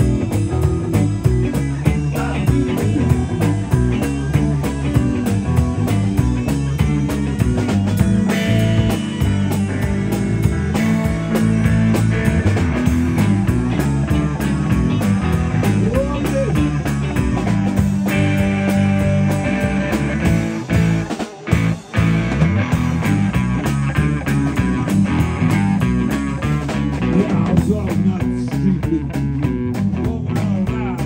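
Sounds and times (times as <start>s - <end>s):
drum kit steady beat: 0.0s - 31.0s
electric bass: 0.0s - 31.0s
electric guitar: 0.0s - 31.0s.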